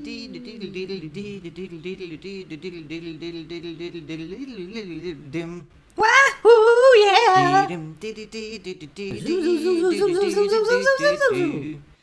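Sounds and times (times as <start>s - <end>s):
person singing wordless melody: 0.0s - 12.0s.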